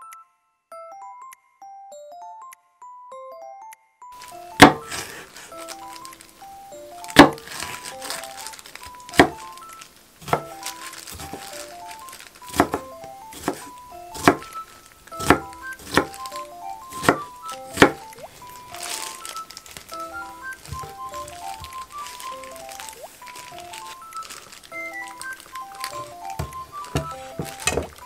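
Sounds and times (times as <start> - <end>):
simple melody background music: 0.0 - 28.0.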